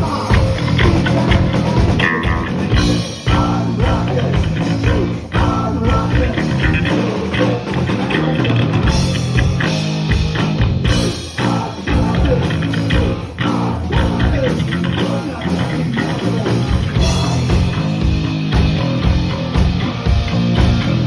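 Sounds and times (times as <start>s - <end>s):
bass guitar: 0.0s - 21.0s
drum kit: 0.0s - 21.0s
electric guitars: 0.0s - 21.0s.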